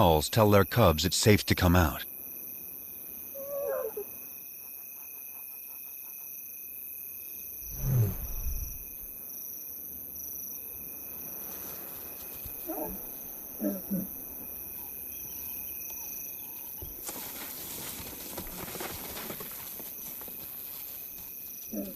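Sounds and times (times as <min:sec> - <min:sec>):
insects chirring: 0:00.6 - 0:21.9.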